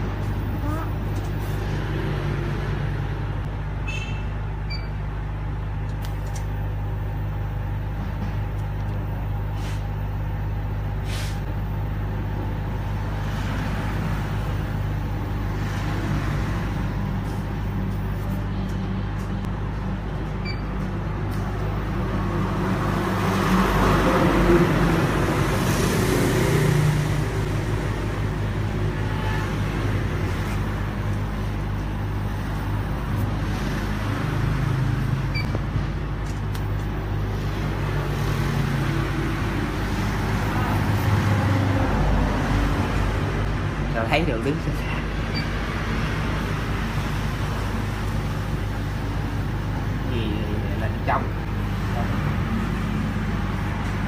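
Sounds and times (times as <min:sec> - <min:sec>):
electrical hum of machinery: 0:00.0 - 0:54.0.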